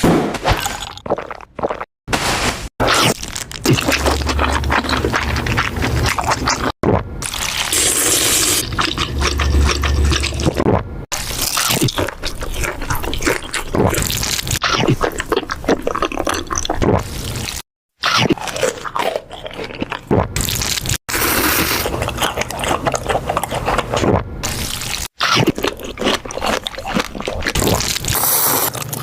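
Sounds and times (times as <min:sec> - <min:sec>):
crunching food: 0:02.8 - 0:07.9, 0:08.6 - 0:29.0
wet chewing and slurping: 0:02.9 - 0:29.0.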